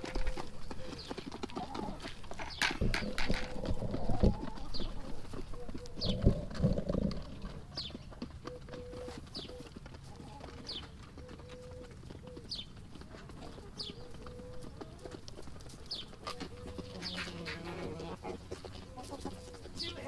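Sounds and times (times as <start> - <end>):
hens clucking: 0.0 - 20.0.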